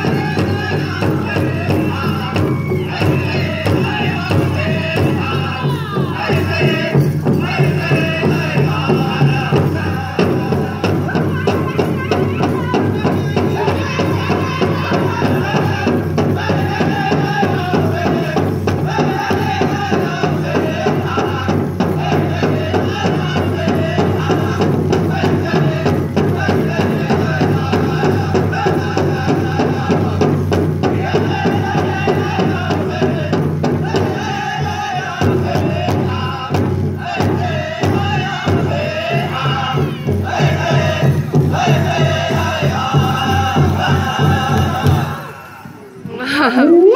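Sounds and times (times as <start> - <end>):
big drum steady beat: 0.0 - 45.3
drum group singing: 0.0 - 46.9.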